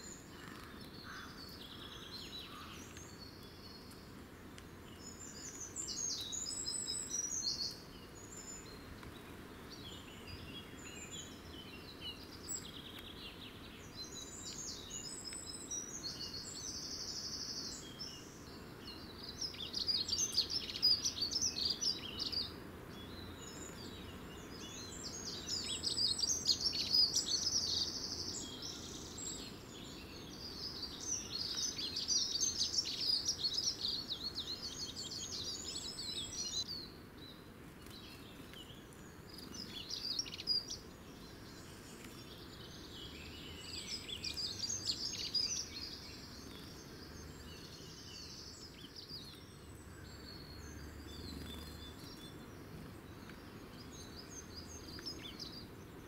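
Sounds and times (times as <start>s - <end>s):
faint background noise: 0.0s - 56.0s
small songbirds singing trills: 0.0s - 56.0s.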